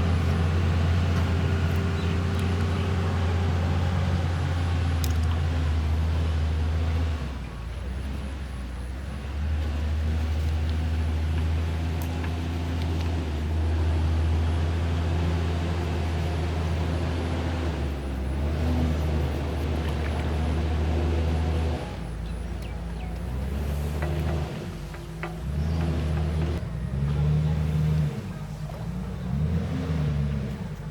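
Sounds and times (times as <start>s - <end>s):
diesel engine humming: 0.0s - 30.9s.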